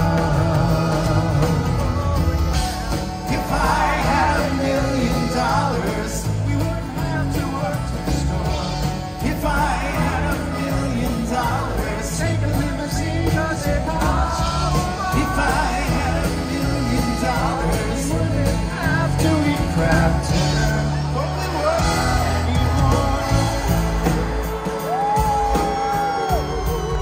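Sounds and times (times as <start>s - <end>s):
live pop-rock band with singing: 0.0s - 27.0s.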